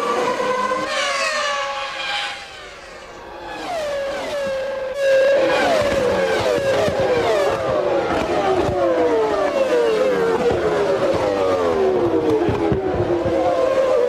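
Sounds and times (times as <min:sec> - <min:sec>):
race car passing: 0:00.0 - 0:14.0.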